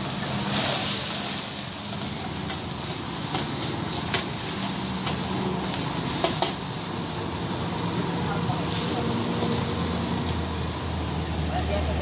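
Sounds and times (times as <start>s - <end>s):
fire rushing and sizzling: 0.0s - 12.0s.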